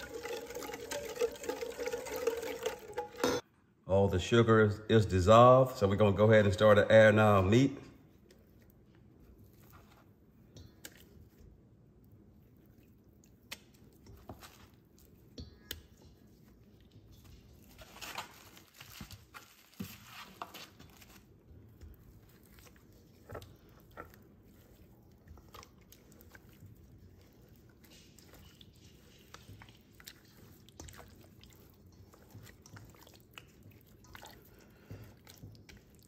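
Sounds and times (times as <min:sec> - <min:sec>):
wet squishing of meat: 0:00.0 - 0:03.0, 0:08.0 - 0:36.0.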